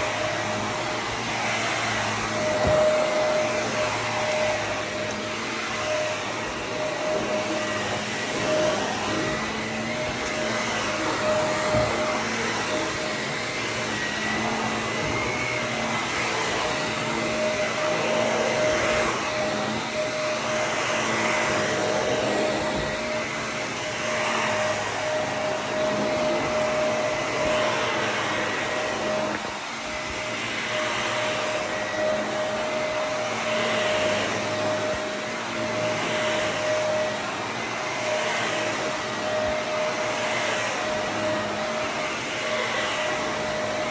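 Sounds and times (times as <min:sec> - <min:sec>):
vacuum cleaner on carpet: 0:00.0 - 0:43.9.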